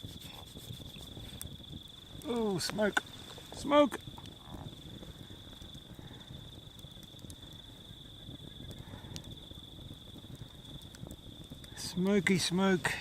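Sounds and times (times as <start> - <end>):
campfire crackling: 0.0 - 13.0
insects trilling: 0.0 - 13.0.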